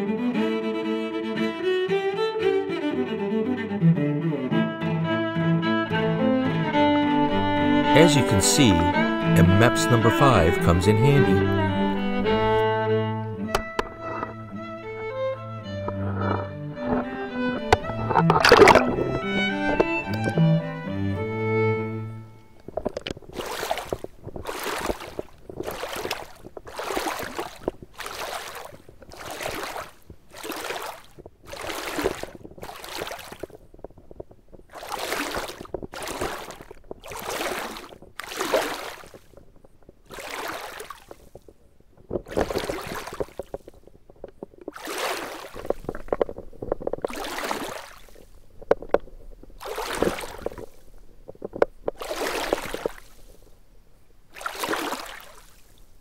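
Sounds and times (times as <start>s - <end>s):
water sloshing: 6.8s - 20.4s, 22.0s - 53.6s, 54.3s - 56.0s.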